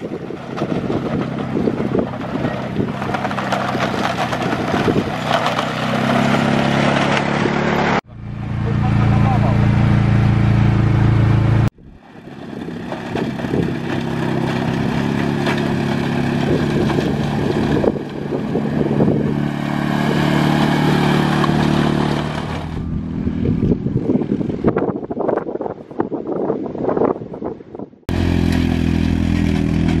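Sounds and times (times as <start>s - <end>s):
utility vehicle engine running: 0.0s - 25.0s, 28.1s - 30.0s.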